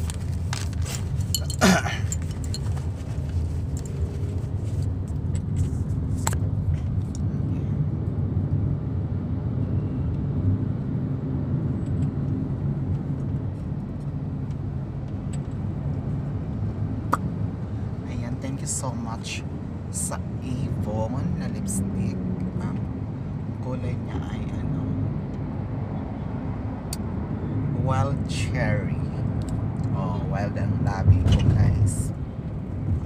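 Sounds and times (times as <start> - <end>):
car engine rumble and road noise: 0.0 - 33.0.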